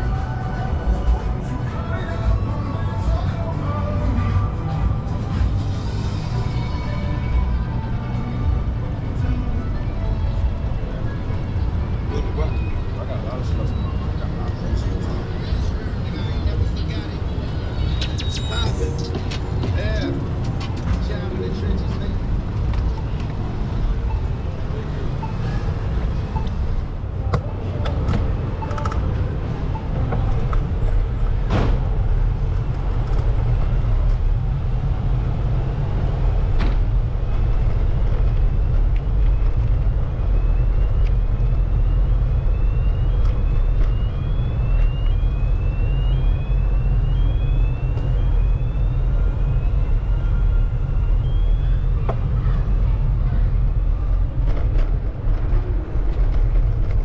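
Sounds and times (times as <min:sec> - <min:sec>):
road traffic: 0:00.0 - 0:57.0
wind rumble on microphone: 0:00.0 - 0:57.0.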